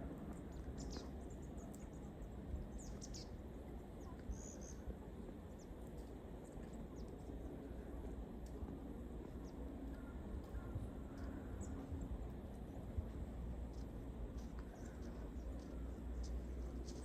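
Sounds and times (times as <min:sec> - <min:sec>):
low background rumble: 0:00.0 - 0:17.0
songbirds chirping: 0:00.0 - 0:17.0.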